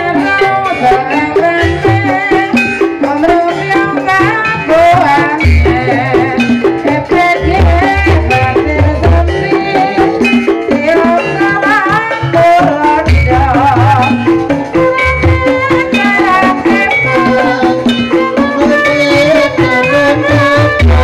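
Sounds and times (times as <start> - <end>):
metallophone melody: 0.0 - 21.0
wavering high melody: 0.0 - 21.0.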